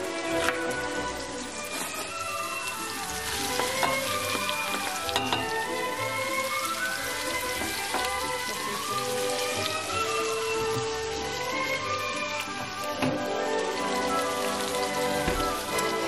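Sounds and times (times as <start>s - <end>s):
background music: 0.0s - 16.0s
clicks of onions being stirred: 0.0s - 16.0s
onions sizzling in a pot: 0.0s - 16.0s.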